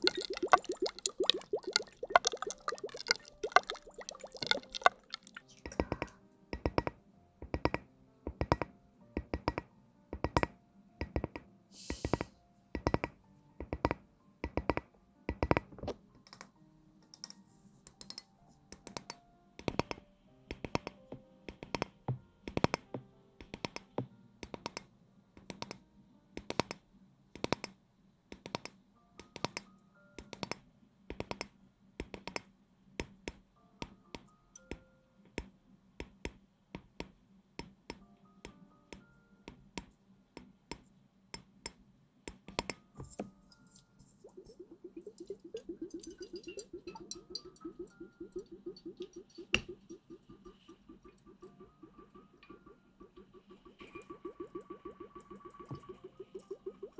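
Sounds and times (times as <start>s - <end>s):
faint background music: 0.0s - 56.9s.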